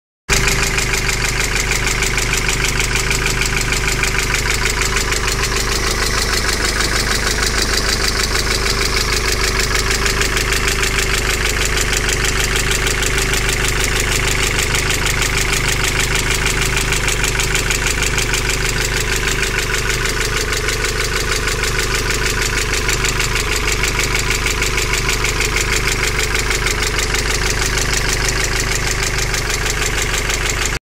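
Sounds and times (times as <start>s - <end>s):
petrol engine idling with ticking: 0.3s - 30.8s.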